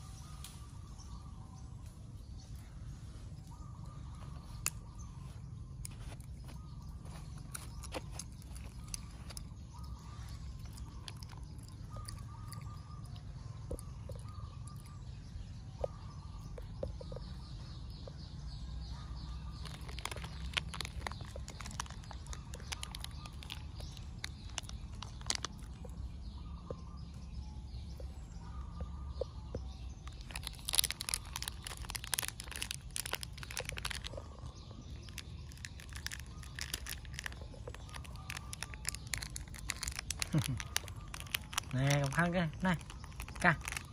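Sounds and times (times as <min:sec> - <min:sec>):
animal chirping calls: 0:06.4 - 0:17.4, 0:18.8 - 0:27.2, 0:27.9 - 0:43.9.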